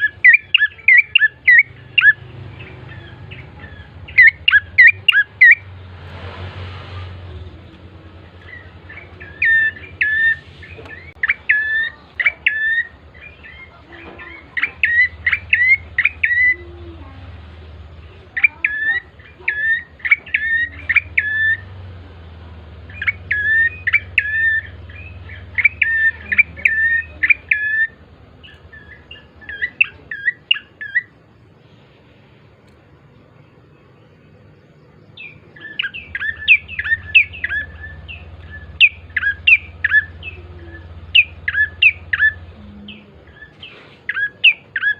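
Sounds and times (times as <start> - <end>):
bird chattering song: 0.0 - 6.0, 7.2 - 32.2, 33.3 - 44.9
low steady hum: 0.0 - 44.9.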